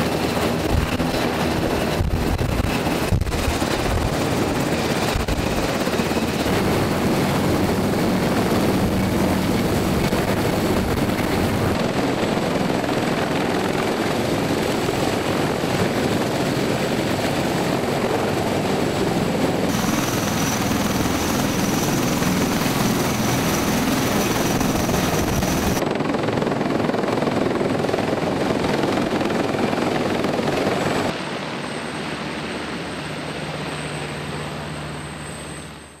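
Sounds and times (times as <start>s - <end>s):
helicopter rotor and engine: 0.0s - 36.0s.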